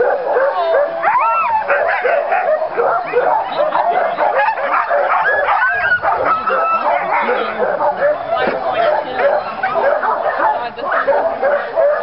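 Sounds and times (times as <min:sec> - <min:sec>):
dogs whining: 0:00.0 - 0:12.0
sled dogs barking and yipping: 0:00.0 - 0:12.0.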